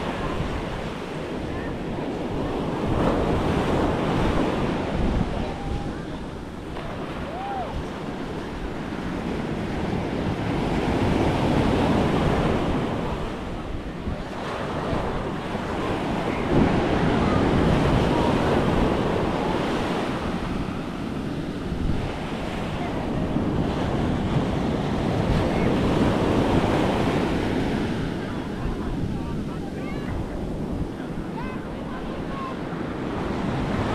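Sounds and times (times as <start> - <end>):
surf breaking on sand: 0.0 - 33.9
wind buffeting microphone: 0.0 - 33.9.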